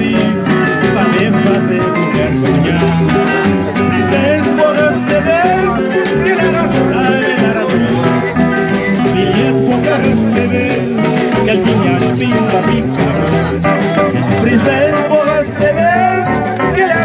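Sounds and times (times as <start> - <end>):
acoustic guitar band music: 0.0 - 17.0.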